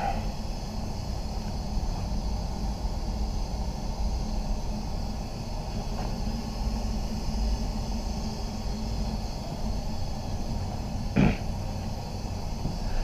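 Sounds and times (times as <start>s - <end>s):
faint hum: 0.0s - 13.0s
ventilation fans rushing air: 0.0s - 13.0s.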